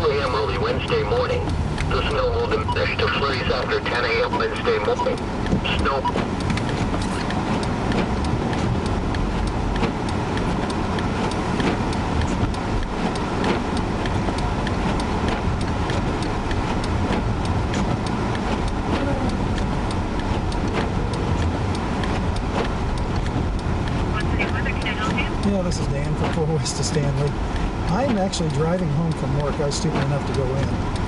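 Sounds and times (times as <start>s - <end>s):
car road and engine noise: 0.0s - 31.0s.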